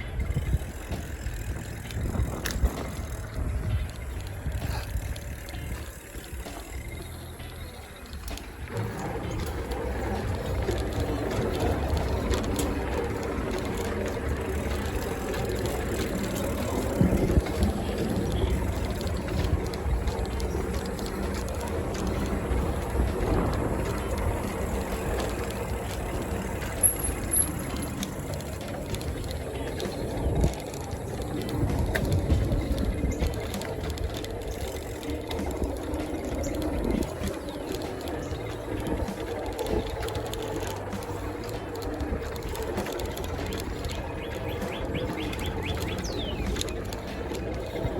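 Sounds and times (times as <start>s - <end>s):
bicycle rattles and knocks: 0.0s - 47.9s
bicycle tyre noise: 0.0s - 47.9s
wind on microphone: 0.0s - 47.9s.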